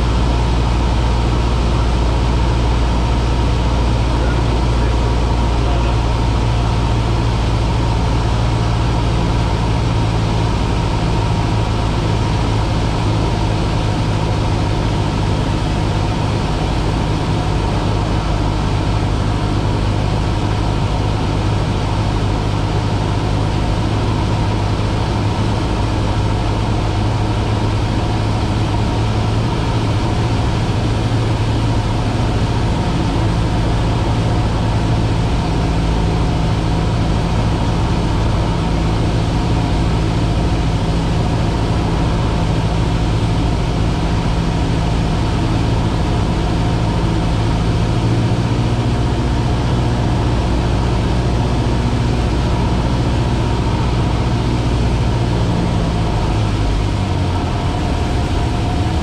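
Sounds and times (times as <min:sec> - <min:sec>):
propeller plane engine drone: 0:00.0 - 0:59.0.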